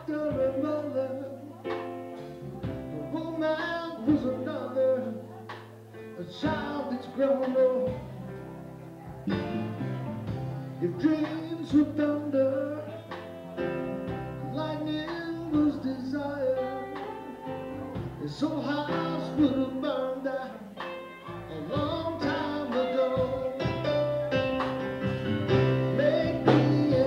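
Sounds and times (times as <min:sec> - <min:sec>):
man singing: 0:00.0 - 0:01.8, 0:02.6 - 0:08.4, 0:09.2 - 0:24.8, 0:25.5 - 0:27.0
guitar accompaniment: 0:00.0 - 0:27.0.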